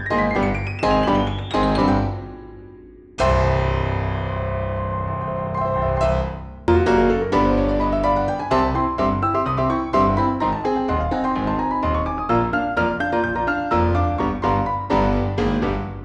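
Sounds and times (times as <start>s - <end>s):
piano background music: 0.0s - 16.0s.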